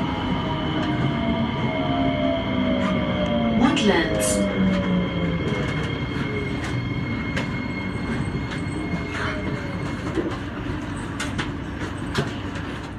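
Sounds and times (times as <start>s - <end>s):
train rumbling on rails: 0.0s - 12.9s.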